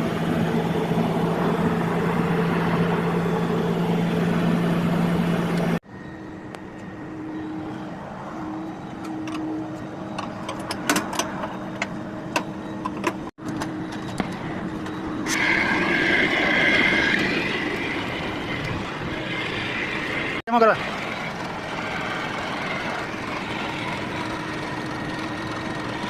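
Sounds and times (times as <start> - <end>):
machine humming: 0.0 - 9.3, 13.7 - 26.0.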